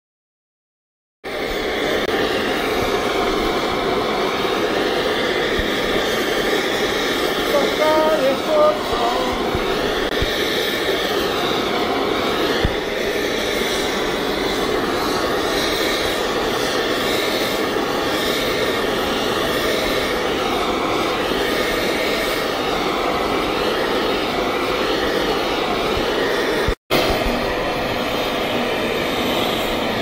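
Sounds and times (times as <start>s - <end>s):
arc welding hiss: 1.3s - 30.0s.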